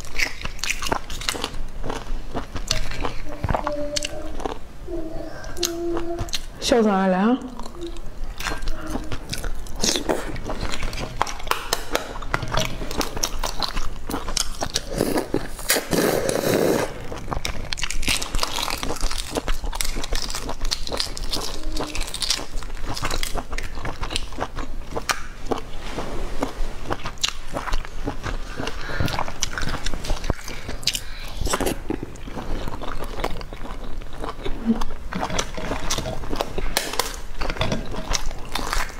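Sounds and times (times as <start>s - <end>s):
biting and chewing: 0.0s - 4.6s, 7.5s - 25.7s, 26.4s - 38.9s.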